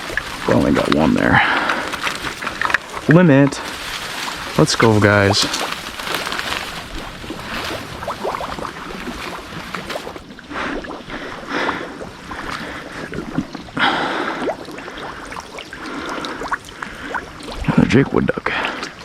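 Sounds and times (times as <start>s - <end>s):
pond water sloshing and splashing: 0.0s - 19.0s.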